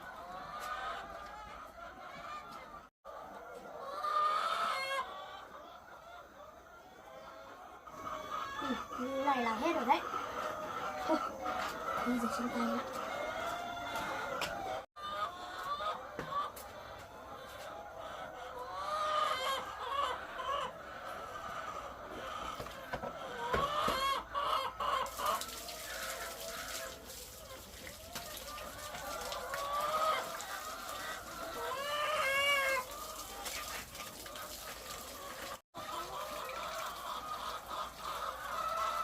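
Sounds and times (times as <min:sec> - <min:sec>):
hens clucking: 0:00.0 - 0:39.0.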